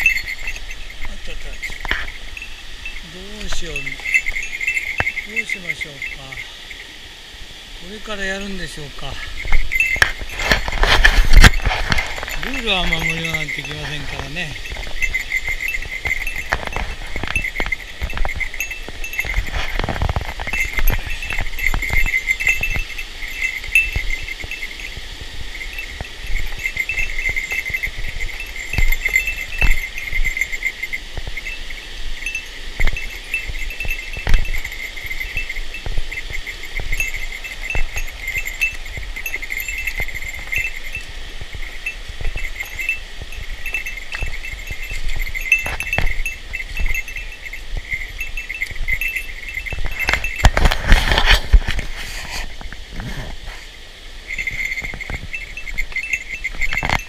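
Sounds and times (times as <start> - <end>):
high-pitched animal chorus: 0.0 - 53.6
mountain stream rushing: 0.0 - 57.0.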